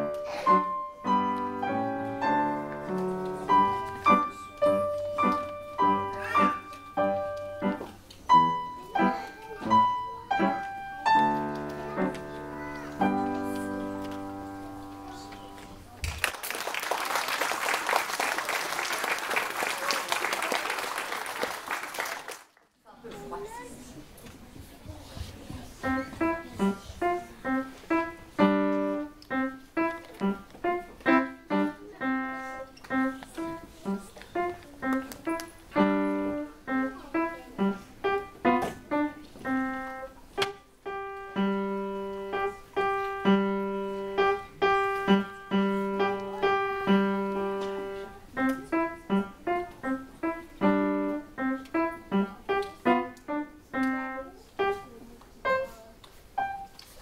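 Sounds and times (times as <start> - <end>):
piano playing: 0.0 - 15.9, 25.8 - 55.7, 56.3 - 56.8.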